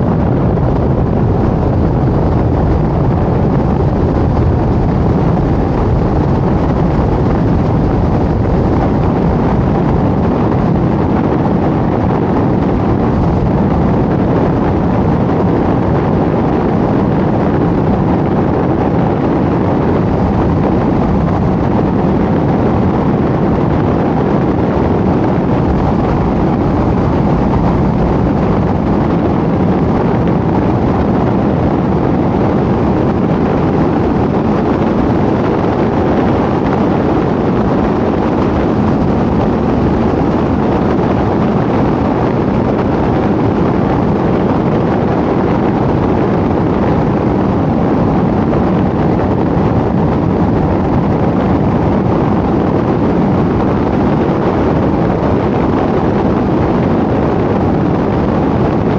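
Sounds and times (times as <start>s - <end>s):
car road and wind noise: 0.0s - 58.9s.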